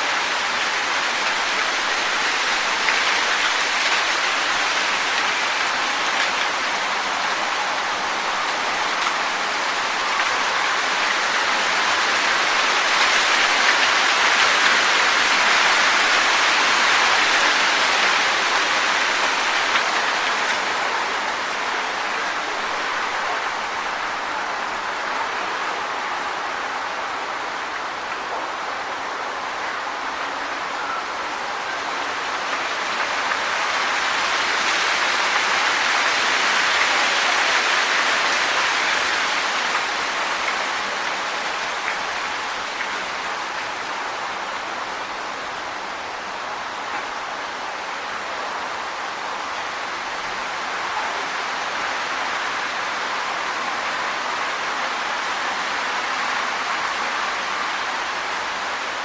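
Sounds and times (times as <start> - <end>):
wind rustling tree leaves: 0.0 - 59.0.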